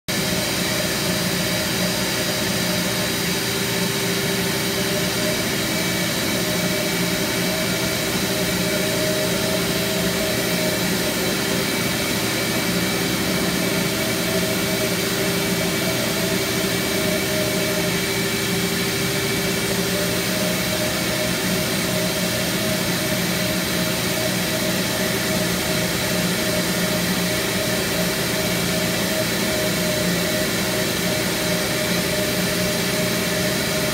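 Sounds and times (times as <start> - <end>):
carpet extractor vacuum running: 0.1 - 33.9.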